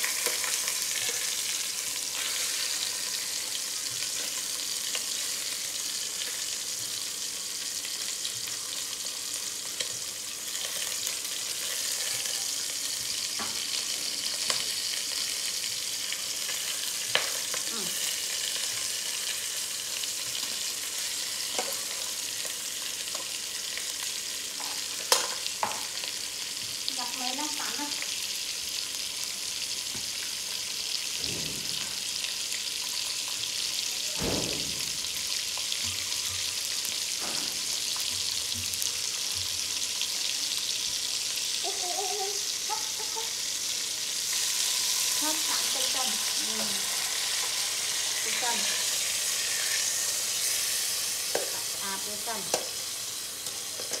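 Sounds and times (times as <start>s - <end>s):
meat sizzling in a pot: 0.0s - 54.0s.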